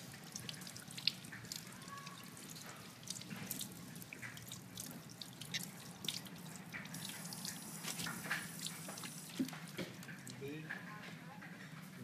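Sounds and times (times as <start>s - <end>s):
water splashes and drips: 0.0s - 12.0s.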